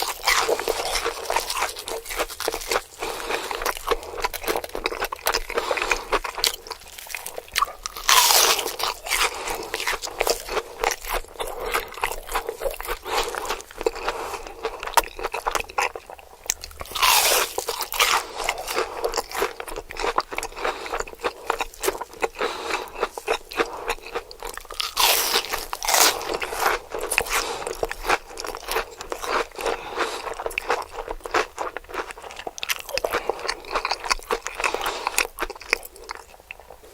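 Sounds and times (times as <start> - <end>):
crisp food crunching: 0.0 - 36.9.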